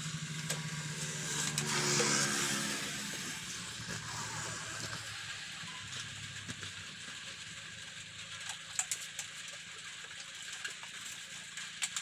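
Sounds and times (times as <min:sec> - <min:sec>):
outdoor hiss: 0:00.0 - 0:09.8.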